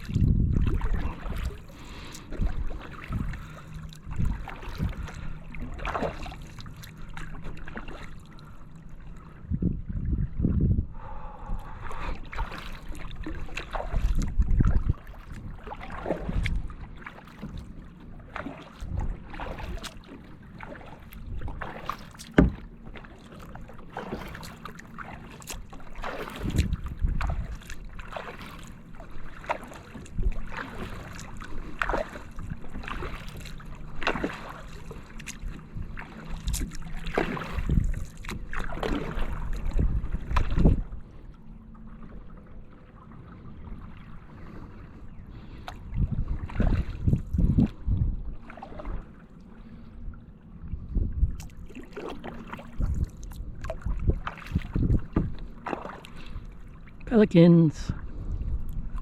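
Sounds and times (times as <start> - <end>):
paddle splashing in water: 0.0 - 9.3, 11.0 - 50.0, 51.2 - 57.3.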